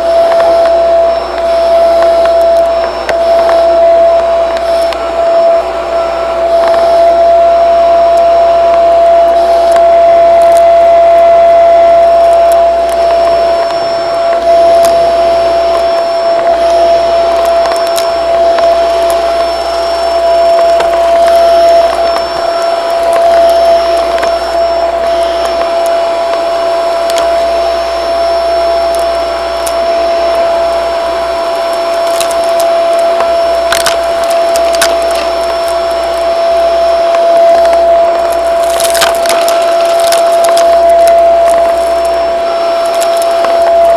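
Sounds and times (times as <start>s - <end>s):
vacuum cleaner whining: 0.0s - 43.9s.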